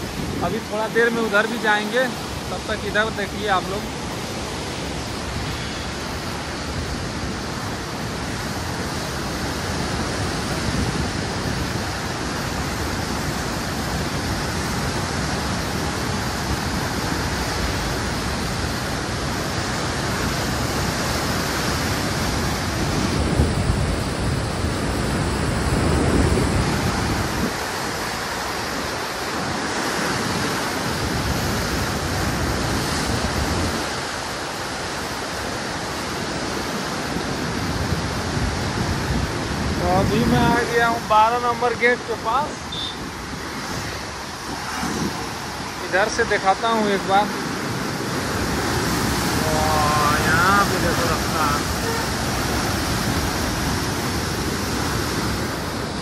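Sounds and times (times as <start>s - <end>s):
roar of churning water: 0.0s - 56.0s.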